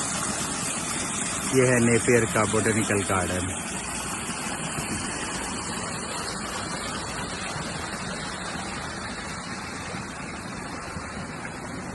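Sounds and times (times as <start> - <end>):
small waterfall rushing: 0.0 - 11.9.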